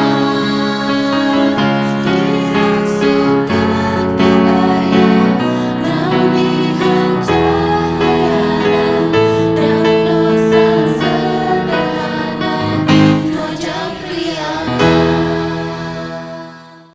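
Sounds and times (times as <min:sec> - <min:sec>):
choir singing held chords: 0:00.0 - 0:16.9
piano accompaniment: 0:00.0 - 0:16.9.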